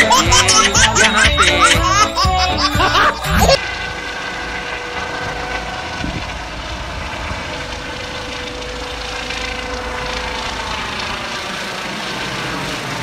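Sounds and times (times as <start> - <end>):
helicopter turbine whine: 0.0 - 13.0.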